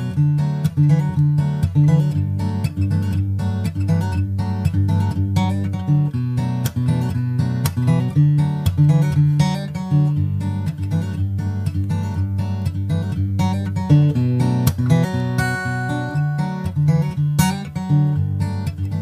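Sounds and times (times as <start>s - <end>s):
strummed acoustic guitar music: 0.0s - 19.0s.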